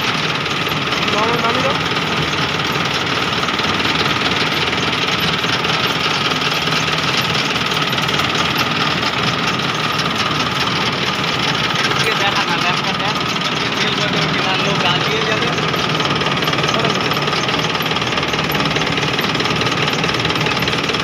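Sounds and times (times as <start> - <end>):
van engine clattering: 0.0 - 21.0.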